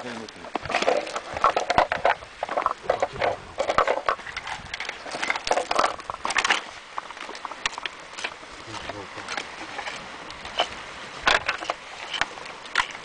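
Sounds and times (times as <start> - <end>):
shell tapping and scraping on rock: 0.3 - 13.0.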